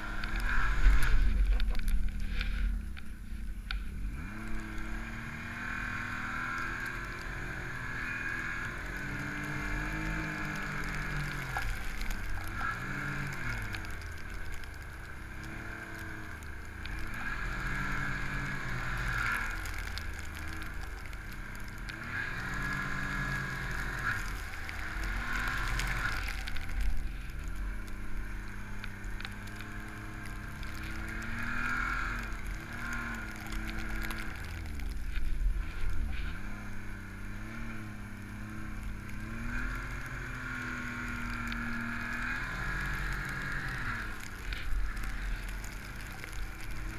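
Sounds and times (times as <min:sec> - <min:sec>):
snowmobile engine revving: 0:00.0 - 0:03.0, 0:03.9 - 0:46.9.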